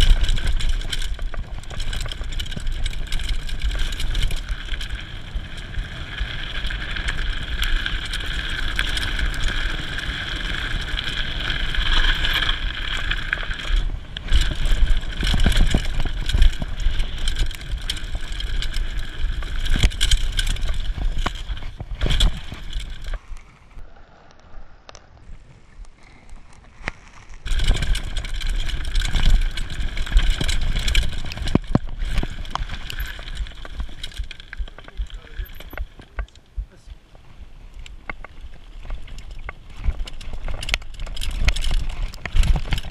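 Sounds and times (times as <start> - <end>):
bike rattling over bumps: 0.0 - 23.8, 26.0 - 42.9
bike tyre noise: 0.0 - 42.9.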